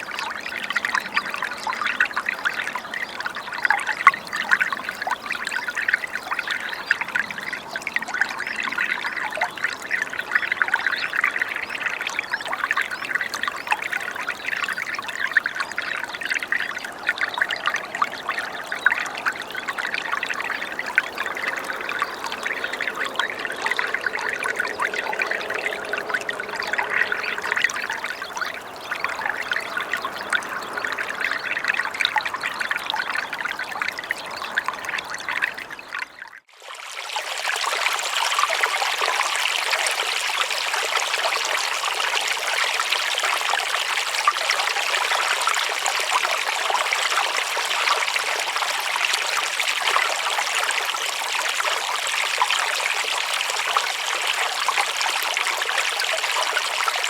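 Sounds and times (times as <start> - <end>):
brighter running water: 0.0 - 57.0
running water trickling and pouring: 0.0 - 57.0.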